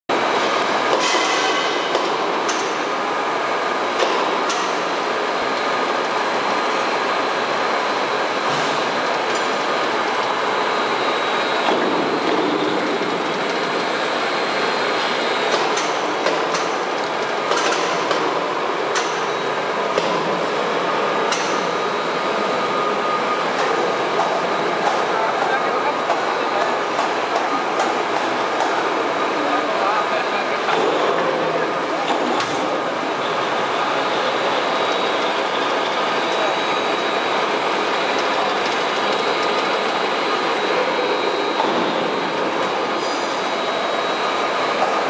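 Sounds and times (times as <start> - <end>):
pipe haul-off machine running: 0.1 - 45.0.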